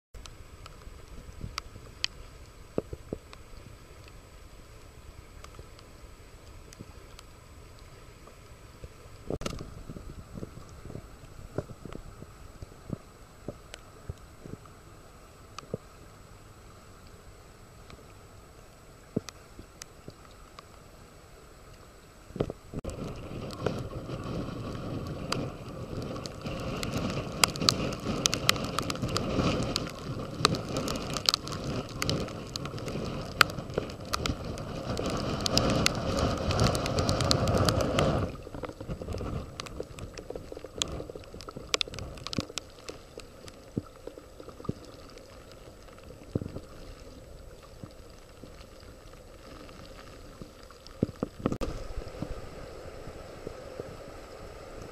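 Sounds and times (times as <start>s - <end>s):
rain: 0.2s - 54.9s
raindrops ticking on microphone: 0.2s - 54.9s.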